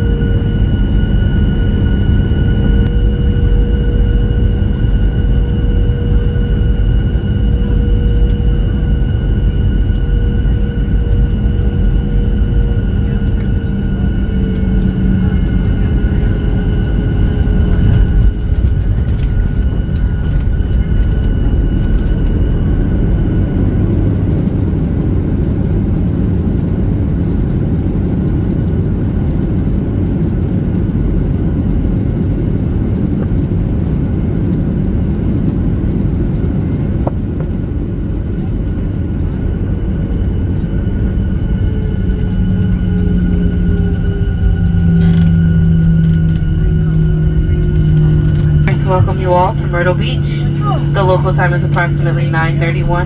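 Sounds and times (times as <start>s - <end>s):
faint high engine whine: 0.0s - 53.0s
jet engine and wheel rumble: 0.0s - 53.0s.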